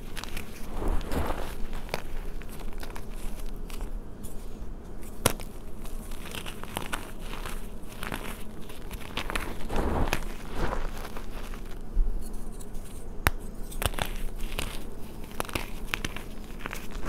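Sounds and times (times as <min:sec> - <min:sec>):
hands crumbling chalk: 0:00.0 - 0:04.4, 0:05.0 - 0:11.8, 0:13.2 - 0:17.0.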